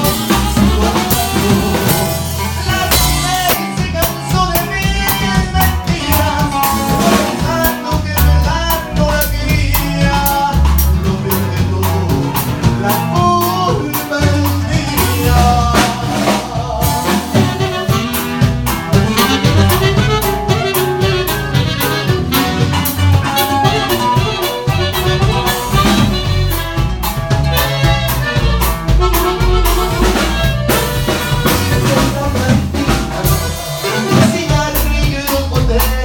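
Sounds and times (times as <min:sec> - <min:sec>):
band playing instrumental melody: 0:00.0 - 0:36.0
bass: 0:00.0 - 0:36.0
drum kit beat: 0:00.0 - 0:36.0.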